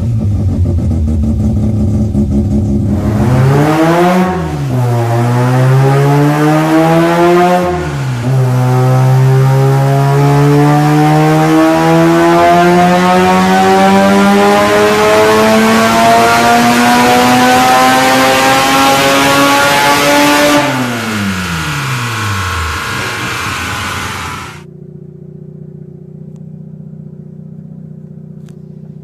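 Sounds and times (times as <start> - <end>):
car engine at full throttle: 0.0 - 24.7.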